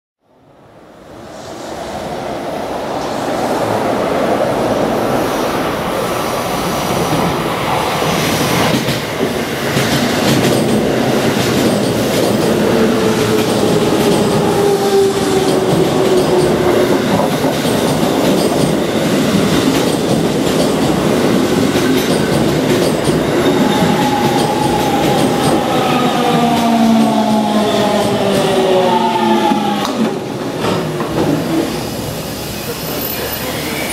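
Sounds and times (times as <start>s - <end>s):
train wheels rumbling on rail: 1.0s - 33.9s.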